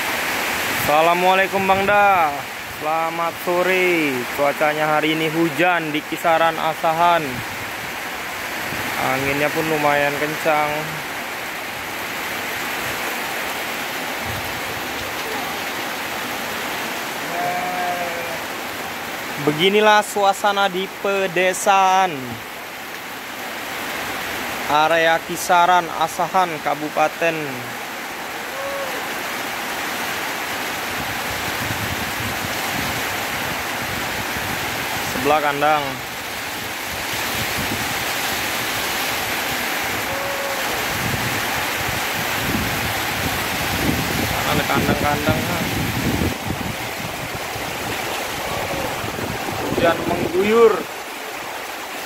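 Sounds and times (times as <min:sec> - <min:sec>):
heavy rain on vegetation: 0:00.0 - 0:52.0
wind: 0:00.0 - 0:52.0.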